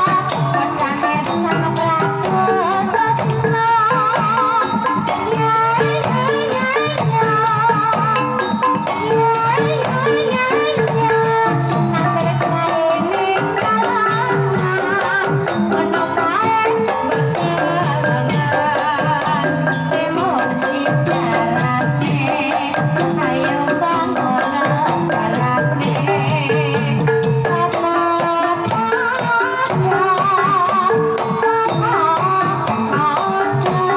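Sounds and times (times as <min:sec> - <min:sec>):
hand drum patterns: 0:00.0 - 0:33.9
woman singing ornamented vocal line: 0:00.0 - 0:33.9.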